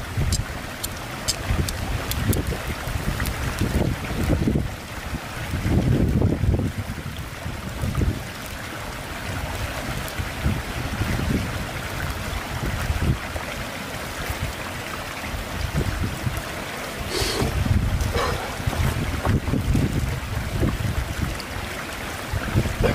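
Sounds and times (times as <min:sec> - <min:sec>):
wind buffeting microphone: 0:01.3 - 0:08.5, 0:09.2 - 0:13.5, 0:15.3 - 0:22.9.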